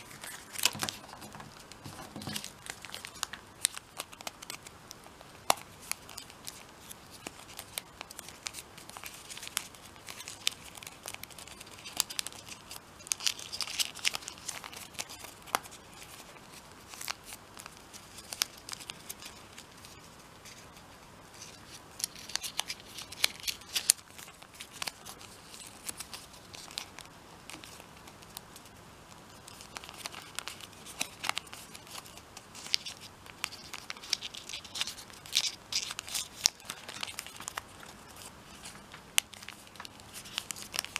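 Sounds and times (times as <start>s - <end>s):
paper rustling and crackling: 0.0s - 40.9s.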